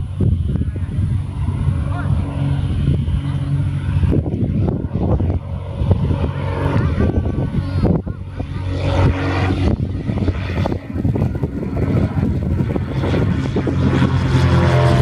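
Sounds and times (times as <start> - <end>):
piston aircraft engine droning: 0.0 - 15.0.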